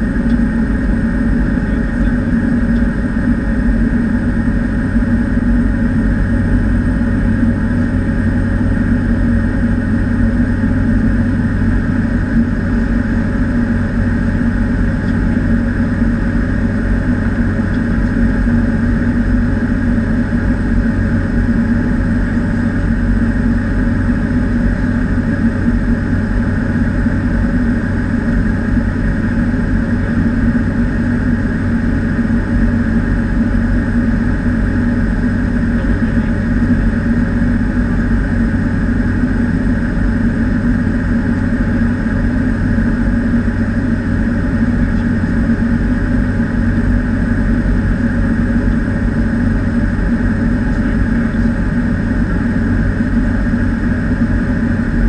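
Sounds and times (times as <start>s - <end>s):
turboprop engine drone: 0.0s - 55.0s.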